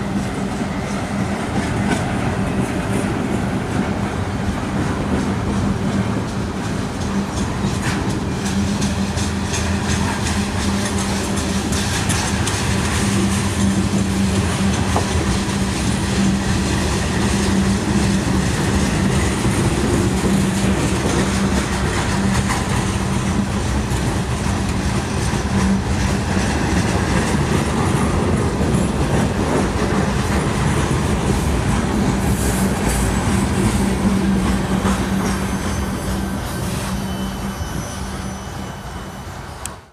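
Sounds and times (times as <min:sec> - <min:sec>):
train wheels clacking over rail joints: 0:00.0 - 0:37.0.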